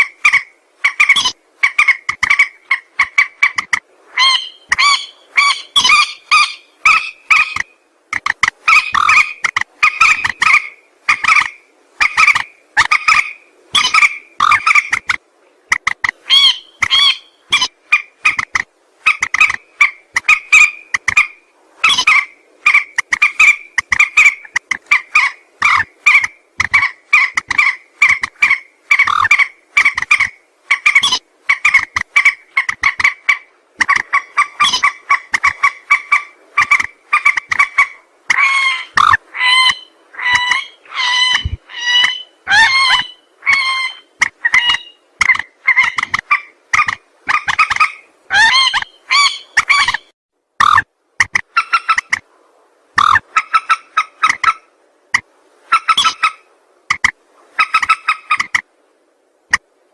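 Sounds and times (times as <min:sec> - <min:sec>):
rail bird calling: 0:00.0 - 0:52.2, 0:53.0 - 0:58.6.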